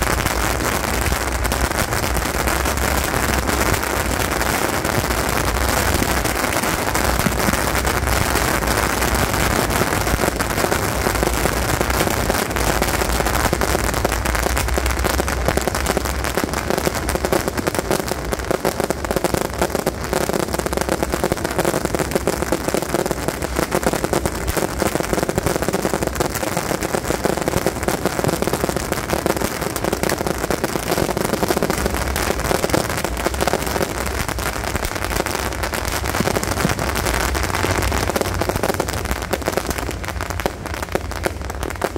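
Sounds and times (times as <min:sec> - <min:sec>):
fireworks crackling: 0:00.0 - 0:41.9.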